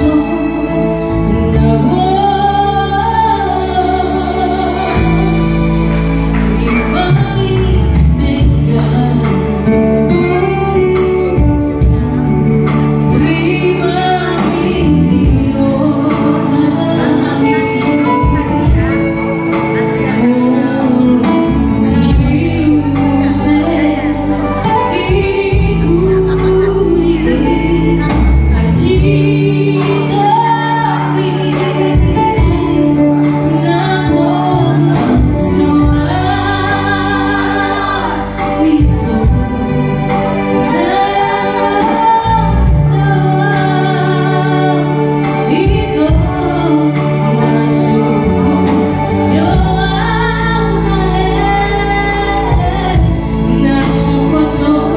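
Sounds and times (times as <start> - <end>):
electronic keyboard accompaniment: 0.0 - 54.9
woman singing into a microphone: 0.0 - 54.9.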